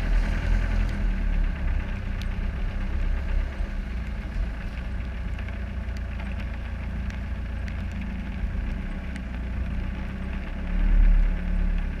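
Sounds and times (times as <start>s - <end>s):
diesel engine at low revs: 0.0s - 12.0s.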